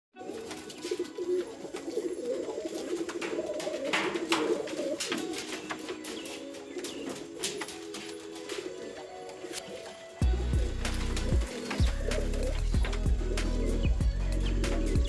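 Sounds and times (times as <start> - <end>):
pigeons cooing: 0.2 - 15.0.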